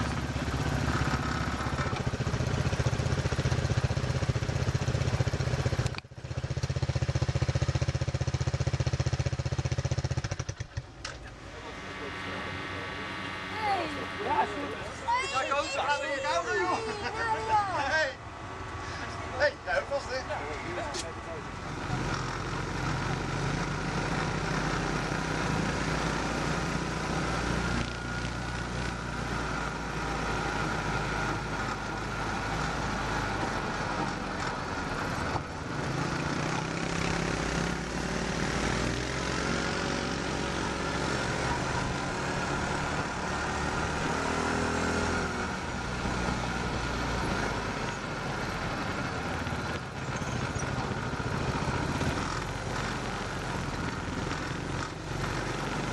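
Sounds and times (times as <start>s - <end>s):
buggy engine running: 0.0s - 55.9s
wind and road noise: 0.0s - 55.9s.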